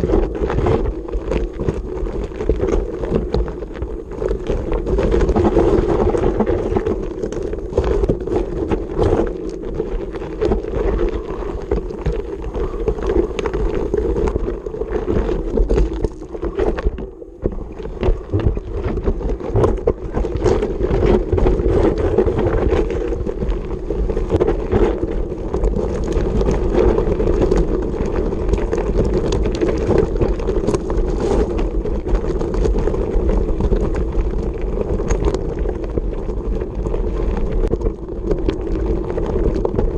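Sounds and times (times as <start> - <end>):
bike rattling over stones: 0.0 - 39.9
bike tyres rumbling on gravel: 0.0 - 39.9
wind on camera: 0.0 - 39.9.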